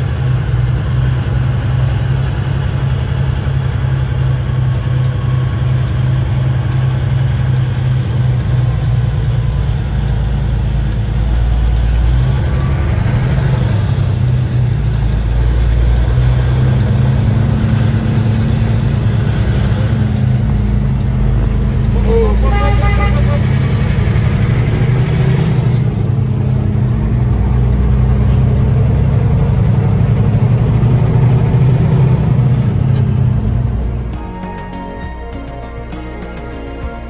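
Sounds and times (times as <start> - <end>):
road noise: 0.0 - 37.0
truck diesel engine droning: 0.0 - 37.0.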